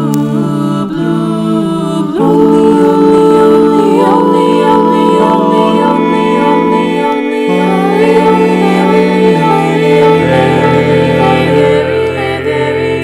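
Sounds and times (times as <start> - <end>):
choir singing chords: 0.0 - 13.0.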